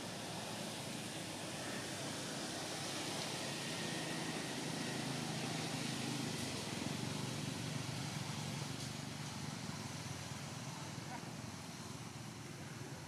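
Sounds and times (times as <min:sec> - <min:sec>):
distant motor vehicle hum: 0:00.0 - 0:13.0
steady outdoor hiss: 0:00.0 - 0:13.0.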